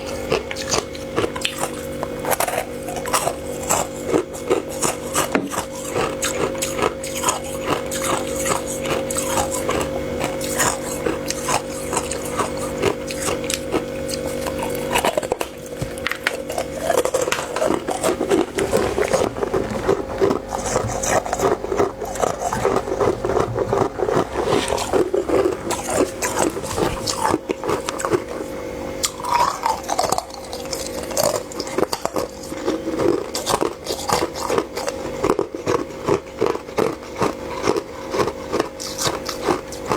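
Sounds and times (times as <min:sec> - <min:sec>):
frost crunching being chewed: 0:00.0 - 0:39.9
steady hum: 0:00.0 - 0:39.9.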